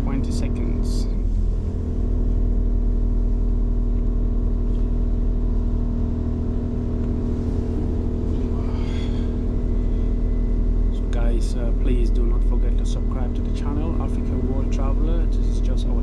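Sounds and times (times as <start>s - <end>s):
diesel train idling hum: 0.0s - 16.0s.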